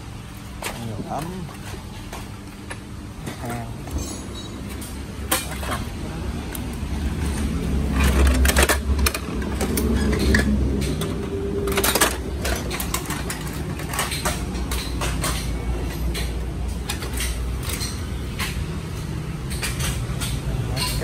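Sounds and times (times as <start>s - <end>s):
road traffic rumble: 0.0s - 21.0s
sharp clicks and knocks: 0.6s - 21.0s.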